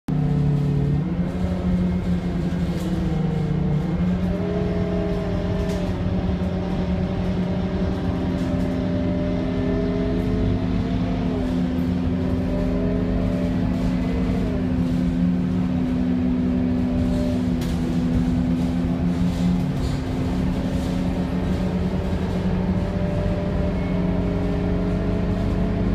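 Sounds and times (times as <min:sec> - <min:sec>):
diesel bus engine revving: 0:00.1 - 0:25.9.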